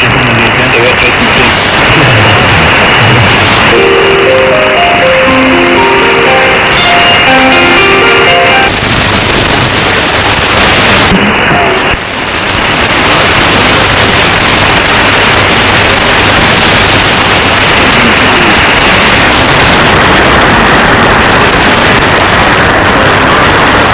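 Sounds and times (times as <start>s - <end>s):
radio static hiss: 0.0s - 23.9s.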